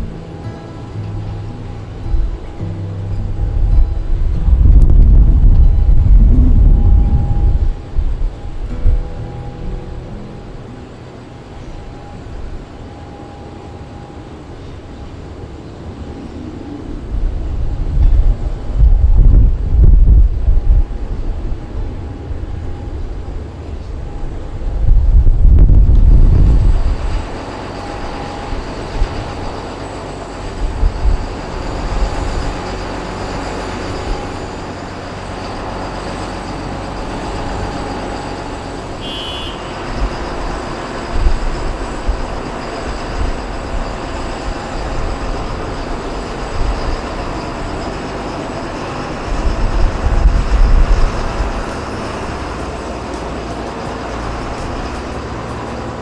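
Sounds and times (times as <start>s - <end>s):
jet engines running: 0.0s - 56.0s
wind buffeting microphone: 0.0s - 56.0s.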